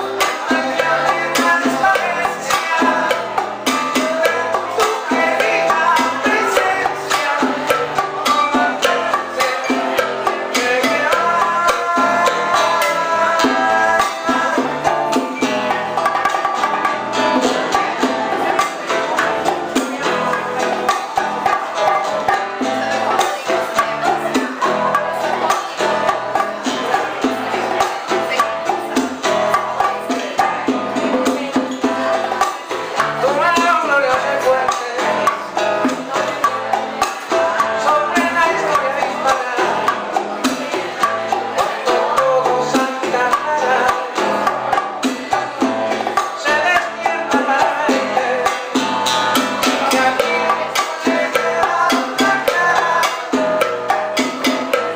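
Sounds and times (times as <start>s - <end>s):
band playing cuban music: 0.0s - 54.9s.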